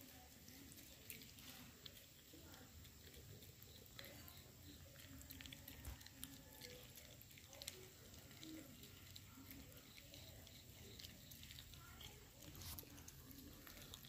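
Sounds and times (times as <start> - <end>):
dog eating from metal bowl: 0.0 - 14.0.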